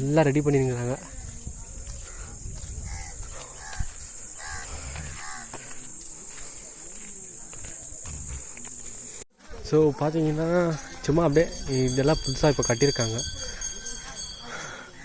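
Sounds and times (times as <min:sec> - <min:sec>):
insects trilling: 0:00.2 - 0:15.0
faint distant voices: 0:00.6 - 0:15.0.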